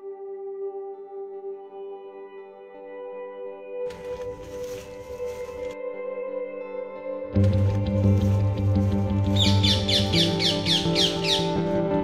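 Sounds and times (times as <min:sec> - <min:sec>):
instrumental music: 0:00.9 - 0:12.0.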